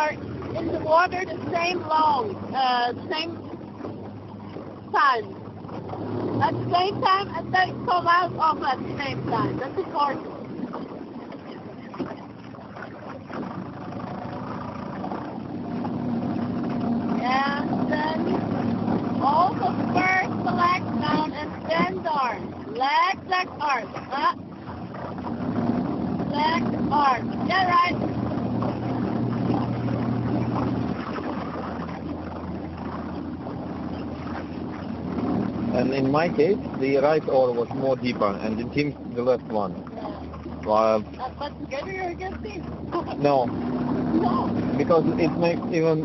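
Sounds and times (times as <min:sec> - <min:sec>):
motorboat engine humming: 0:00.0 - 0:46.0
water noise: 0:00.0 - 0:46.0.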